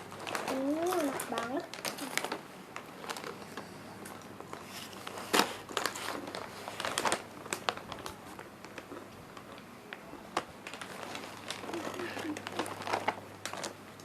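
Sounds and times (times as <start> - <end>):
crispy chips crunching: 0.0 - 9.6, 10.3 - 14.0.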